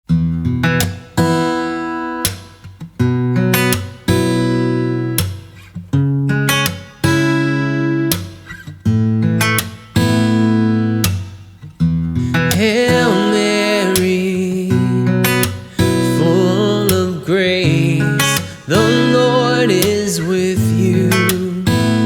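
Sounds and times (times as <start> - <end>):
acoustic guitar chords strummed: 0.1 - 22.0.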